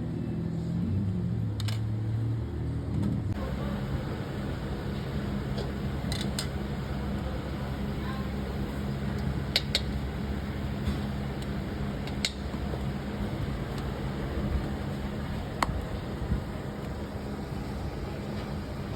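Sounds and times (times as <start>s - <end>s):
low mechanical hum: 0.0s - 18.9s.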